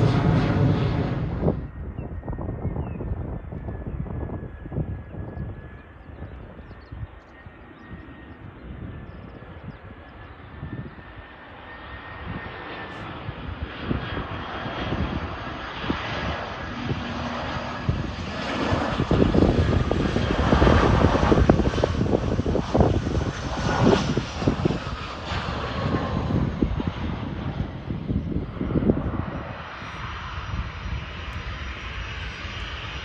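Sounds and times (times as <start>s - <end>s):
jet engine rumble and whine: 0.0s - 33.0s.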